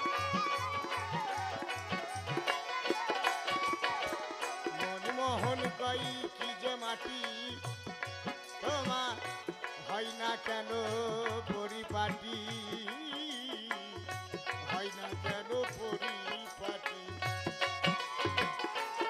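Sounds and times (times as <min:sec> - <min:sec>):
wavering folk melody: 0:00.0 - 0:19.0.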